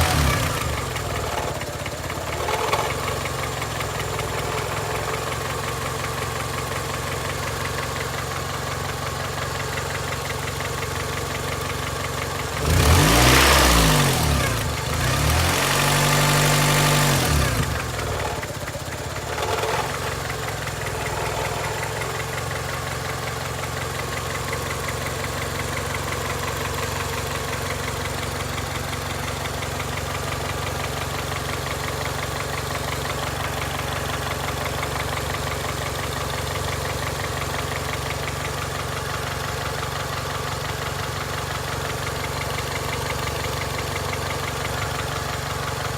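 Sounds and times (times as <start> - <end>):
car engine idling and revving: 0.0 - 45.9
engine knocking: 0.0 - 45.9.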